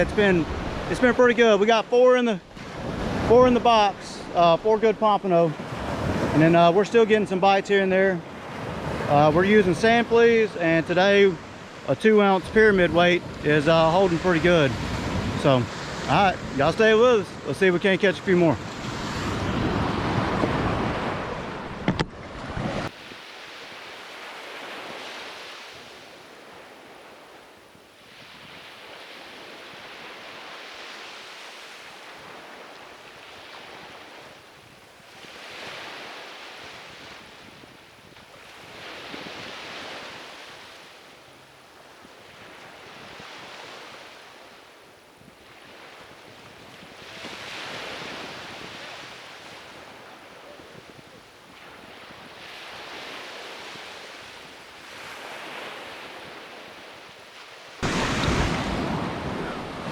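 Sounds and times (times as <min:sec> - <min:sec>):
wind rumbling on microphone: 0:00.0 - 0:01.2, 0:02.5 - 0:04.8, 0:05.5 - 0:06.4, 0:11.4 - 0:17.5, 0:18.1 - 0:59.9
surf breaking on sandy beach: 0:00.0 - 0:59.9.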